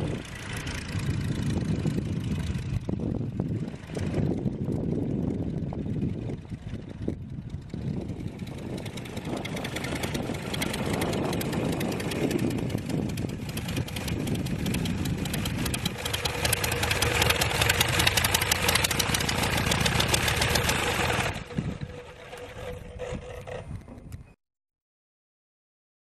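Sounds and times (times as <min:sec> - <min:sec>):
radial engine running: 0:00.0 - 0:23.7.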